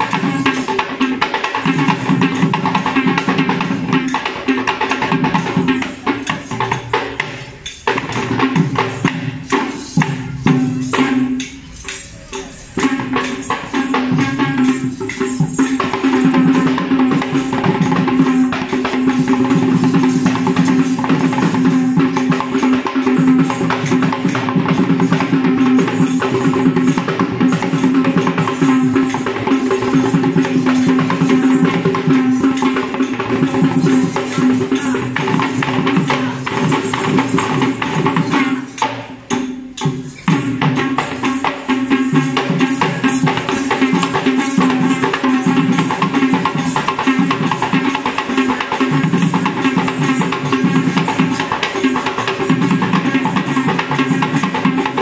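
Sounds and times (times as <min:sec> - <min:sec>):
hand drums fast rhythm: 0:00.0 - 0:55.0
metallic jingling: 0:00.0 - 0:55.0.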